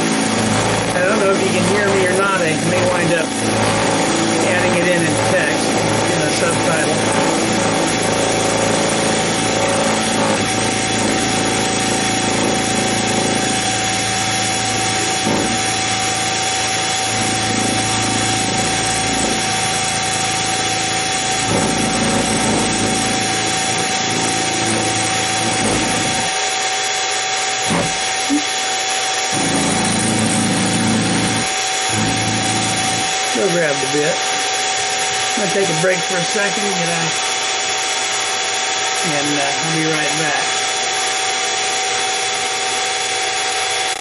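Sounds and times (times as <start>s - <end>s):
end mill cutting metal: 0.0s - 44.0s
mini mill whining: 0.0s - 44.0s.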